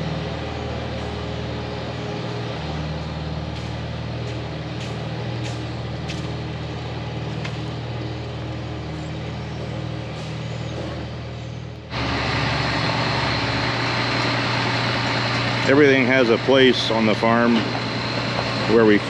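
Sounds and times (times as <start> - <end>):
farm machine engine running: 0.0 - 19.0.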